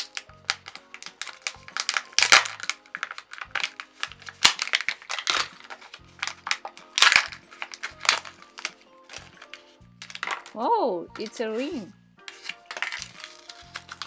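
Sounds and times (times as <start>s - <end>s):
foil seal peeled back: 0.0s - 10.5s, 12.2s - 14.0s
foil wrapper crinkling and tearing: 0.0s - 10.6s, 11.2s - 14.0s
background music with low pulse: 0.0s - 14.0s.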